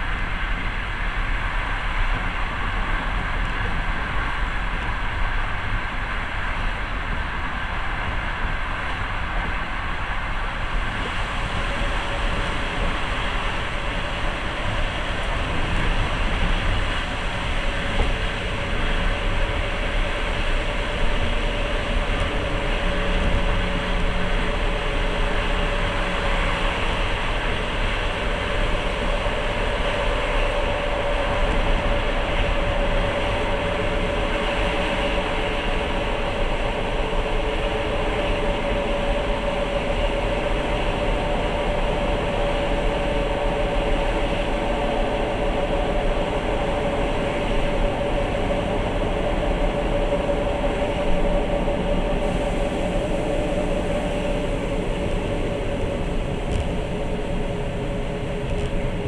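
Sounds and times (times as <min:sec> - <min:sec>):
steady whine: 0:00.0 - 0:59.0
train wheels rumbling on rails: 0:00.0 - 0:59.0.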